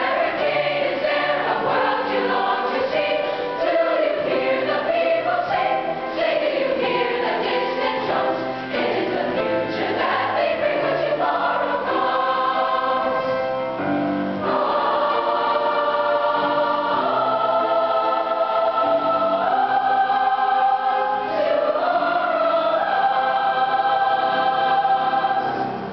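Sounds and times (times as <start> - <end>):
mixed choir singing chords: 0.0 - 25.9.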